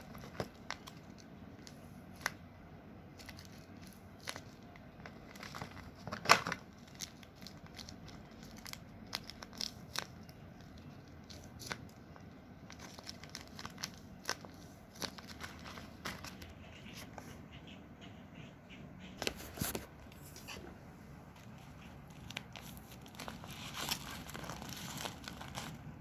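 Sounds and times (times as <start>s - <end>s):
paper crinkling and rustling: 0.0s - 2.4s, 3.1s - 17.3s, 19.2s - 26.0s.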